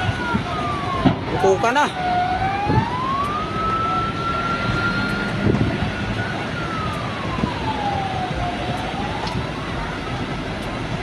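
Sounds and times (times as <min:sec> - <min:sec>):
fire truck siren wailing: 0:00.0 - 0:11.0
street and crowd noise: 0:00.0 - 0:11.0.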